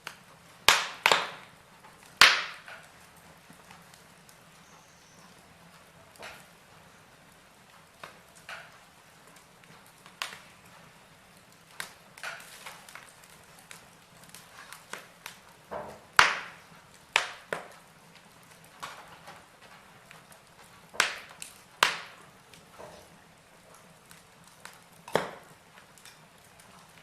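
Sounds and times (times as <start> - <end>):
logs crackling in a fireplace: 0.0 - 27.0.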